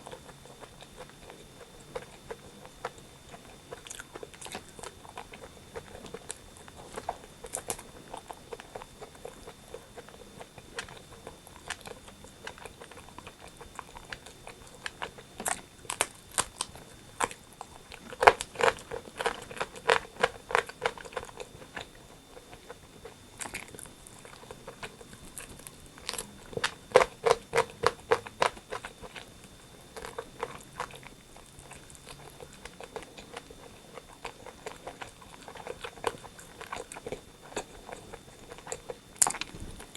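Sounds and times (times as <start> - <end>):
person chewing and smacking: 0.0 - 39.9.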